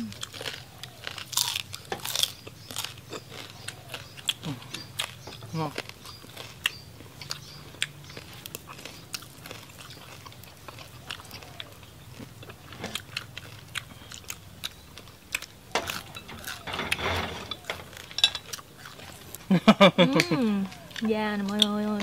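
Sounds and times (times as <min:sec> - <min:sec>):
chewing crispy pork crunching: 0:00.0 - 0:22.0.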